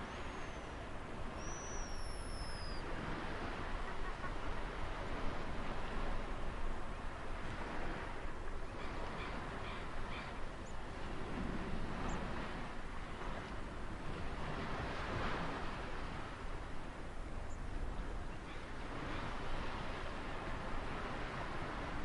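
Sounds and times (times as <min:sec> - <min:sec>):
ocean waves washing onto shore: 0:00.0 - 0:22.0.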